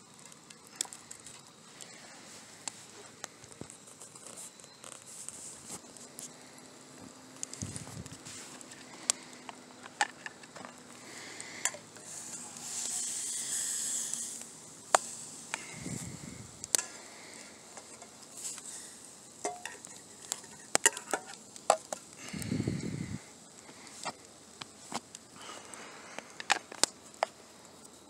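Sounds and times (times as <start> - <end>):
fish sizzling in a pan: 0.0 - 28.0.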